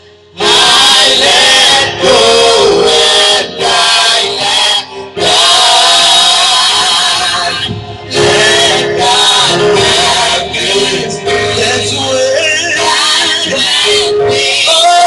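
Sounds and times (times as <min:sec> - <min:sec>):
gospel group singing through speaker: 0:00.1 - 0:15.0.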